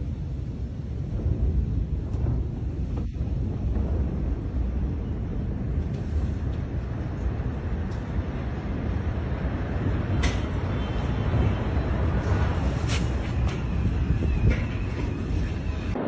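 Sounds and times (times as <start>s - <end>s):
low rumble after explosion: 0.0s - 16.0s.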